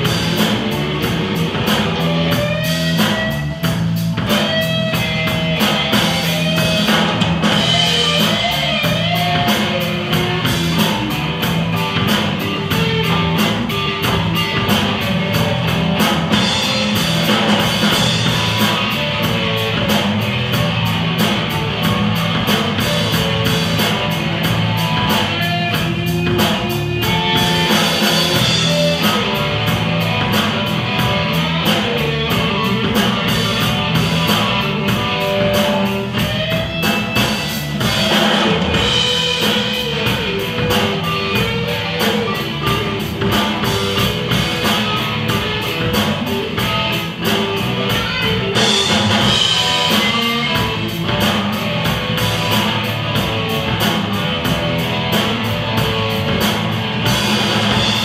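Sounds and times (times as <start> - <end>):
bass guitar: 0.0 - 58.0
drum kit with cymbals: 0.0 - 58.0
electric guitar lead: 0.0 - 58.0.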